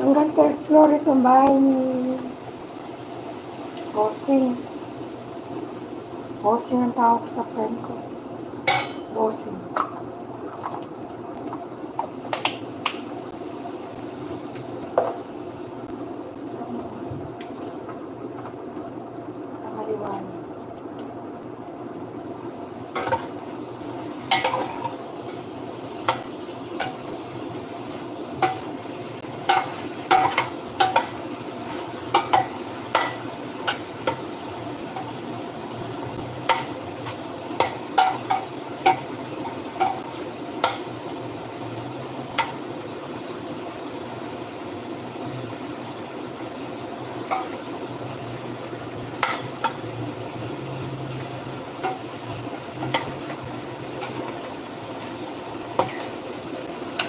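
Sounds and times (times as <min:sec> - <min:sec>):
food sizzling in pot: 0:00.0 - 0:19.2, 0:22.0 - 0:57.0.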